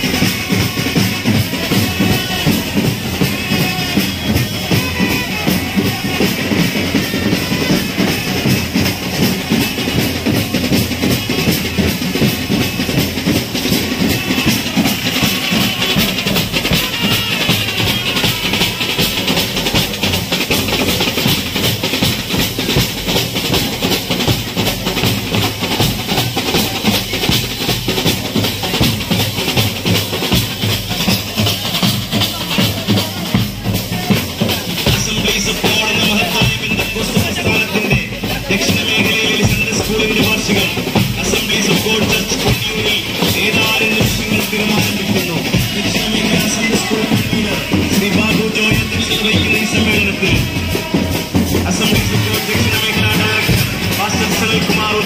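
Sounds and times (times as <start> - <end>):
bass drum: 0.0 - 55.0
fast loud drumming: 0.0 - 55.0.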